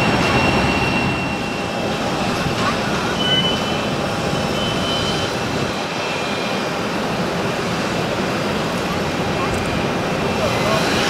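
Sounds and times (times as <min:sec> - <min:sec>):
jet engines rumbling with whine: 0:00.0 - 0:11.0.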